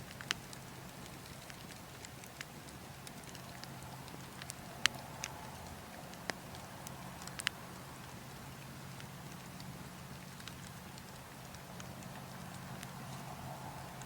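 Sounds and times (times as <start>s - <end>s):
burning logs crackling: 0.0s - 14.0s
low rush of wind: 0.0s - 14.0s.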